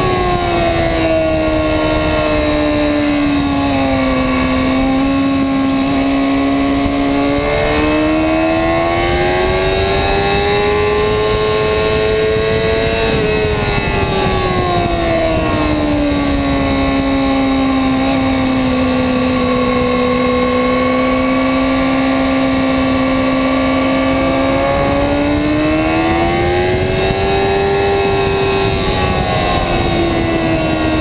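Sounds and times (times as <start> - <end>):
motorcycle engine at speed: 0.0 - 31.0
wind rush: 0.0 - 31.0.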